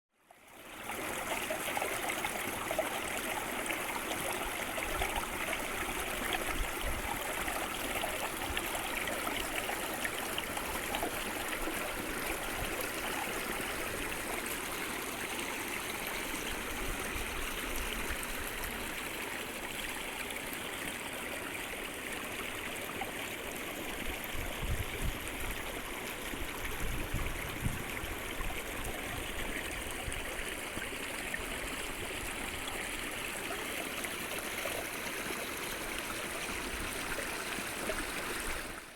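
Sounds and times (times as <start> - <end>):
creek water babbling over rocks: 0.2 - 38.9.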